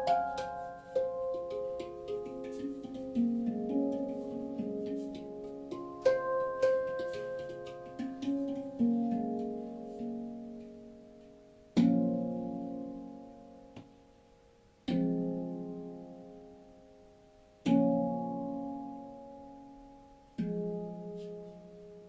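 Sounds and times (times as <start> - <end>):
handpan notes ringing: 0.0 - 13.8, 14.8 - 22.0.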